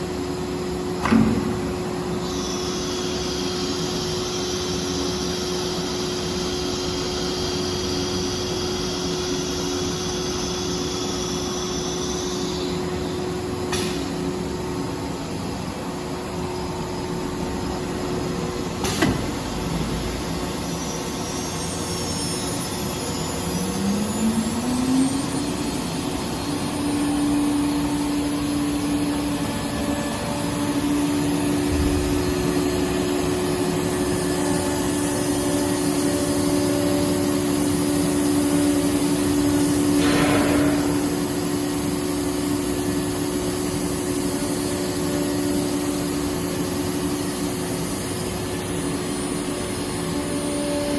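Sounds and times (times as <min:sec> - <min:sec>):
cnc router spindle whine: 0:00.0 - 0:50.9.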